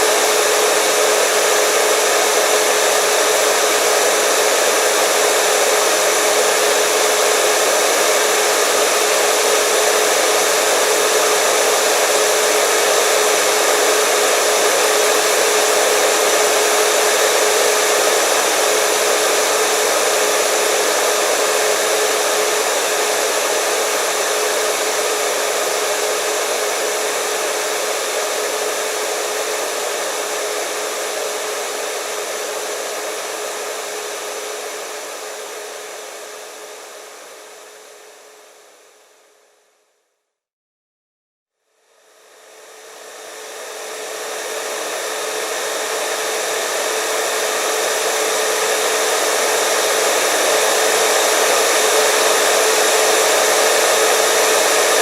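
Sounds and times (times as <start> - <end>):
hair dryer blowing air: 0.0 - 39.4, 42.0 - 55.0.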